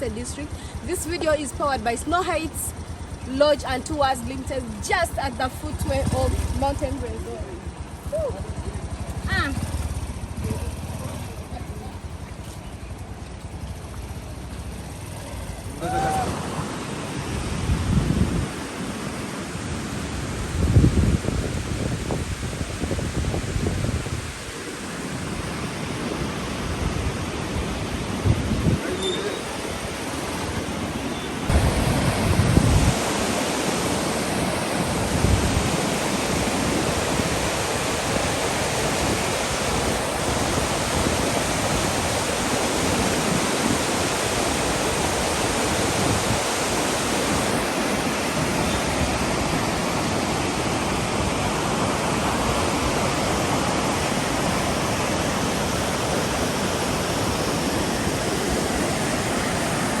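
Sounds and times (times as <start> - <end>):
rushing river roar: 0.0 - 60.0.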